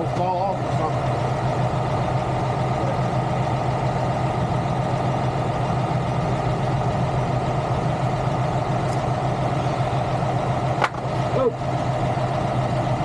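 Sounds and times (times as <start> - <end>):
large diesel engine idling: 0.0 - 13.0.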